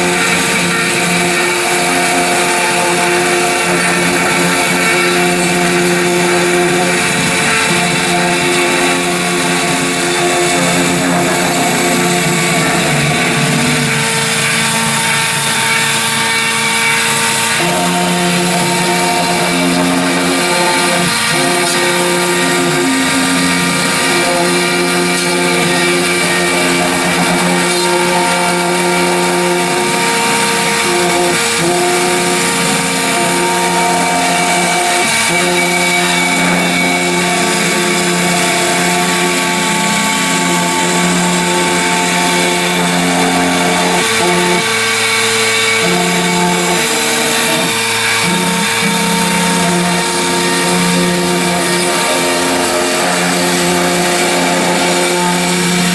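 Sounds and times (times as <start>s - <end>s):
machine whirring with motor tones: 0.0s - 55.9s.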